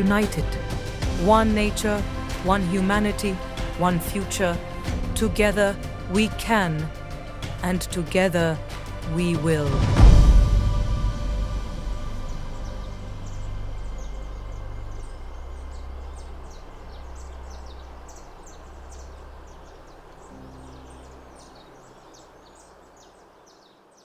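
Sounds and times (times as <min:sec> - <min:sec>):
low bass drone: 0:00.0 - 0:22.7.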